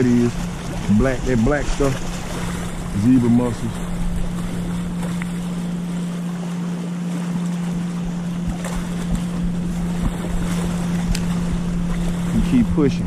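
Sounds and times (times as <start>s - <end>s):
wind buffeting microphone: 0.0s - 6.8s, 7.6s - 13.0s
lake water lapping: 0.0s - 13.0s
steady low hum: 0.0s - 13.0s.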